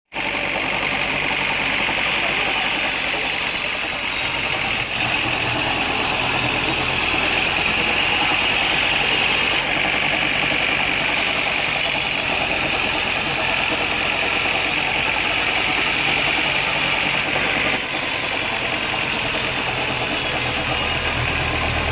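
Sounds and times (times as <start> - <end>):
sawmill machinery drone: 0.1 - 21.9.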